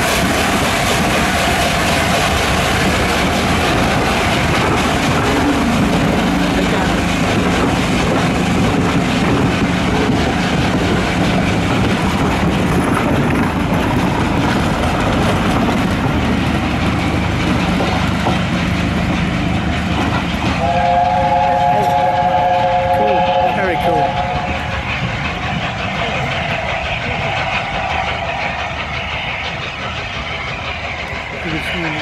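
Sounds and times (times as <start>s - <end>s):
train carriages rolling past: 0.0s - 32.0s.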